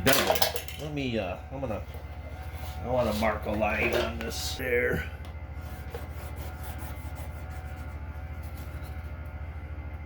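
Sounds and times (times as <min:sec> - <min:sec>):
low fluttering hum: 0:00.0 - 0:10.0.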